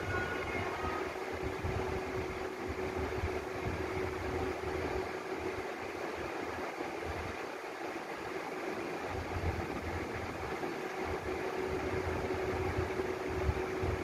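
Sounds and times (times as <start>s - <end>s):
mechanical hum with faint tone: 0.0s - 14.0s.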